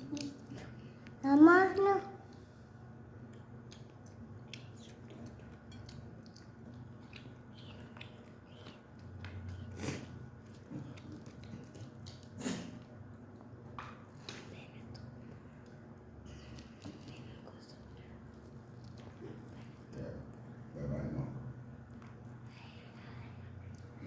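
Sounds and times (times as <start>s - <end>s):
quiet chewing: 0.0s - 24.0s.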